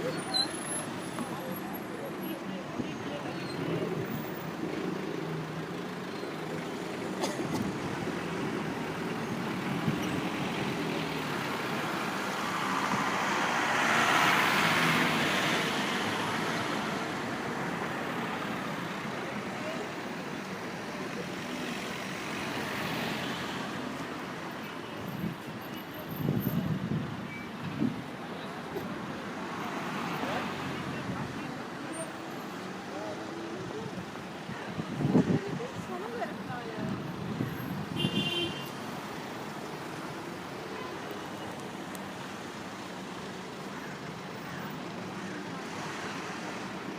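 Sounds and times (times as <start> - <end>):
road traffic noise: 0.0 - 46.9.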